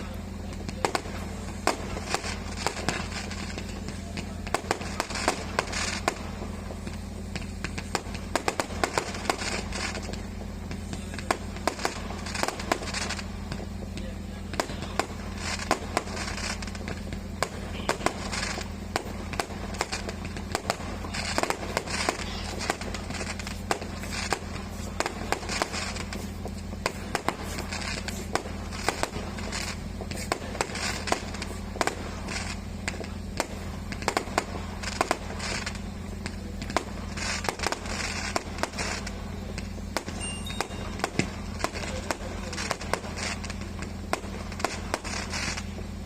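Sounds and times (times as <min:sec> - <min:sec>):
firecrackers popping and banging: 0:00.0 - 0:46.0
steady low hum: 0:00.0 - 0:46.0.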